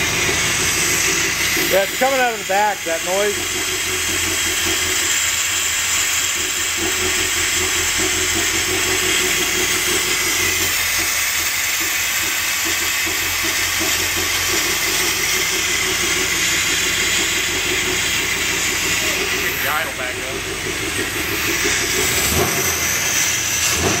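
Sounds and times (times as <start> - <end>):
car engine running steadily: 0.0 - 24.0.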